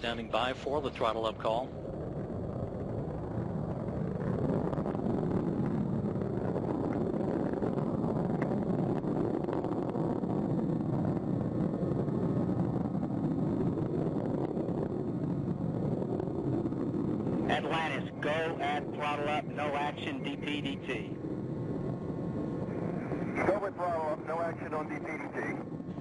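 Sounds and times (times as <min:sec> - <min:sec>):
rocket engines roaring: 0:00.0 - 0:26.0.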